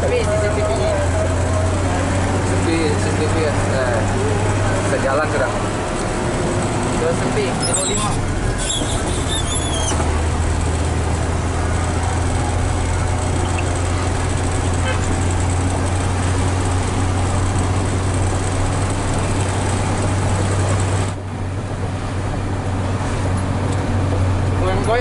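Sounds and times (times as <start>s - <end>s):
road noise: 0.0s - 25.0s
truck diesel engine drone: 0.0s - 25.0s.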